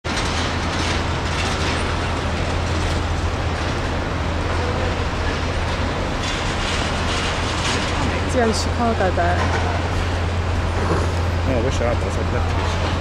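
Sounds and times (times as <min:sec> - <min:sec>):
jet engines low rumble: 0:00.0 - 0:13.0.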